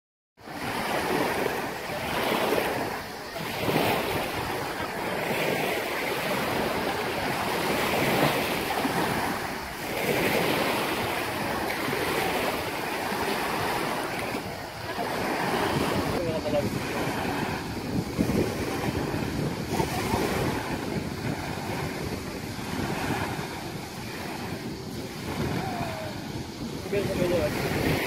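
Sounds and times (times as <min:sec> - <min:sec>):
small waves lapping on shore: 0:00.4 - 0:28.0
wind buffeting microphone: 0:00.4 - 0:28.0.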